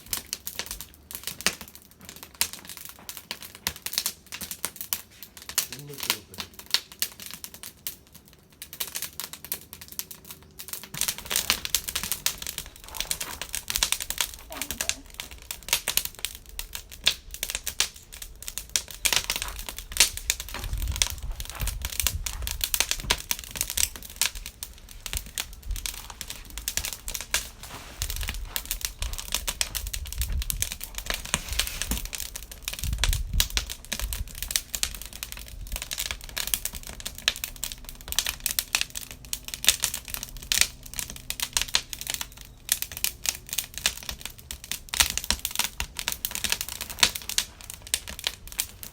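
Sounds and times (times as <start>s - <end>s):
campfire crackling: 0.0s - 48.9s
low rumbles: 9.6s - 48.9s.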